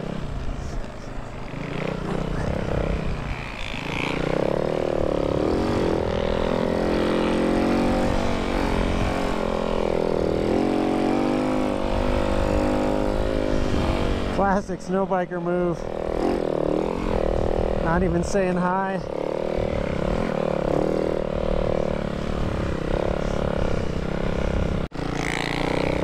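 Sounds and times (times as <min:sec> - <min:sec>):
snow bike engine: 0:00.0 - 0:26.0.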